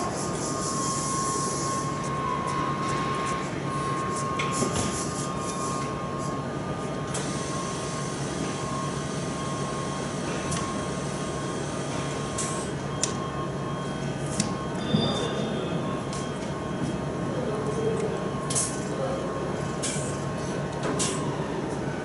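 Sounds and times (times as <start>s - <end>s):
factory machinery hum: 0.0s - 22.0s.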